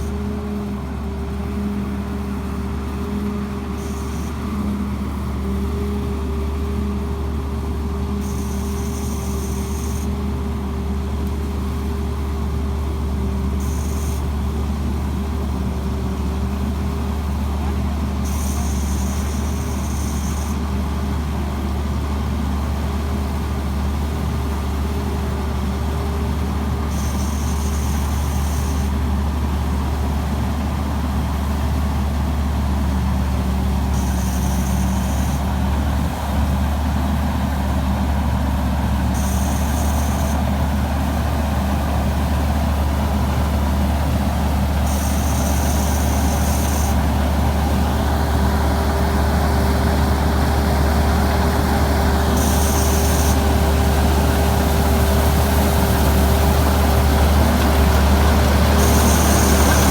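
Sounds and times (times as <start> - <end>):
diesel engine droning: 11.2 - 59.9.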